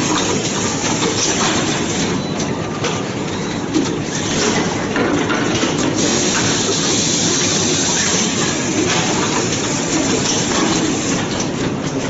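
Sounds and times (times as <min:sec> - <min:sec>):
assembly line machinery din: 0:00.0 - 0:12.0.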